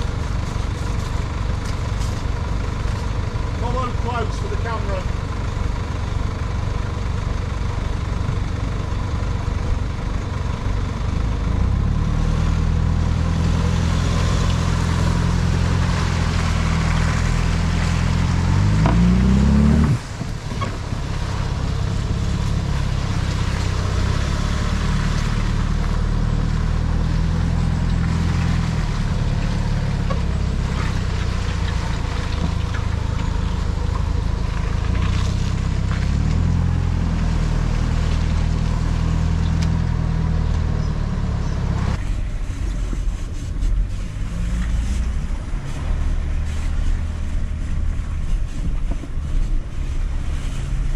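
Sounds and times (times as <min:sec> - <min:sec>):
vehicle engine running and revving: 0:00.0 - 0:50.9.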